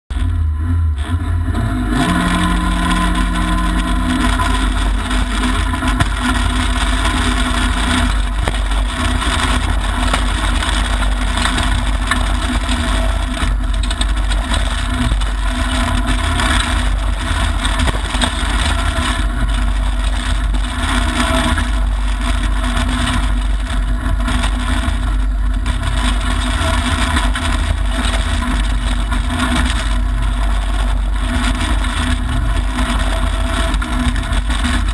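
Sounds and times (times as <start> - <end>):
rally car engine running hard: 0.1 - 34.9
tyres on loose gravel: 1.0 - 34.9.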